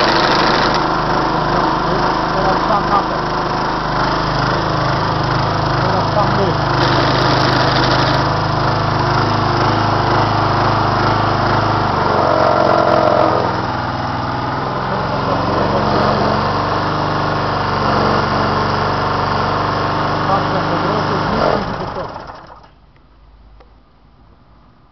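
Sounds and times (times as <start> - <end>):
engine whine: 0.0 - 19.4, 20.3 - 22.8
mower petrol engine running: 0.0 - 22.8.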